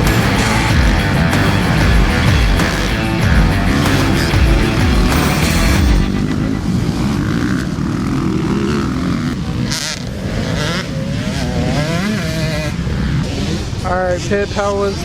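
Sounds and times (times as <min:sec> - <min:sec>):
dirt bike engines running: 0:00.0 - 0:15.0.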